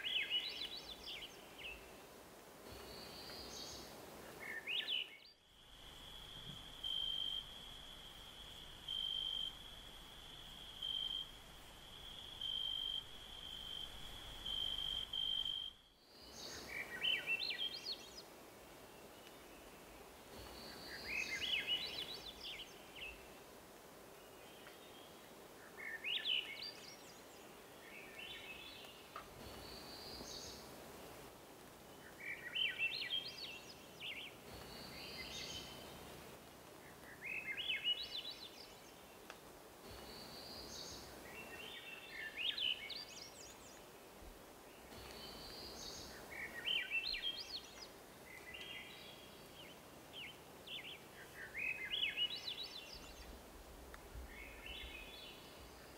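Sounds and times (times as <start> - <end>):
faint background hiss: 0.0 - 55.9
songbird singing: 0.0 - 55.9.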